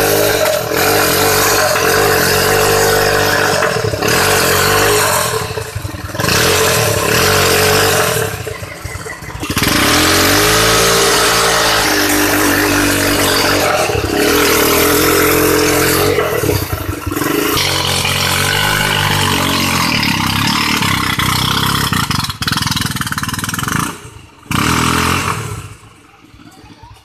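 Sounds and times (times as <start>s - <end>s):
car engine revving: 0.0s - 26.1s.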